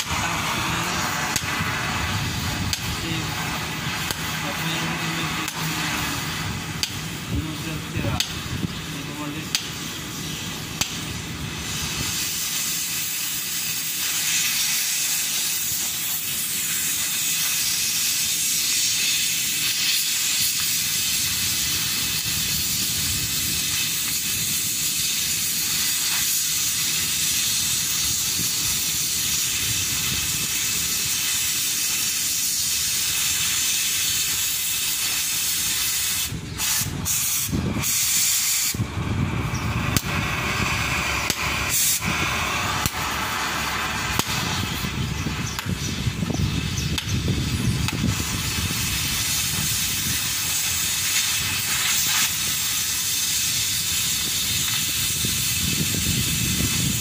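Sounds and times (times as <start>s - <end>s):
cutting torch hissing: 0.0s - 57.0s.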